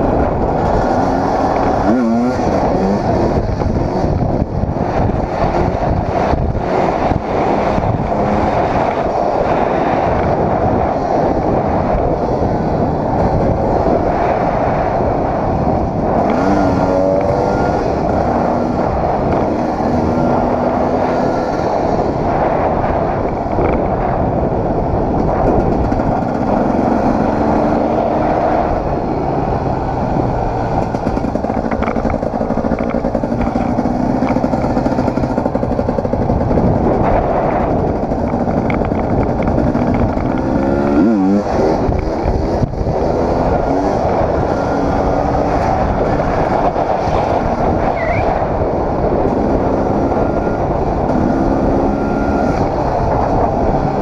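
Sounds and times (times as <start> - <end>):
dirt bike engine running: 0.0 - 54.0
wind noise on microphone: 0.0 - 54.0.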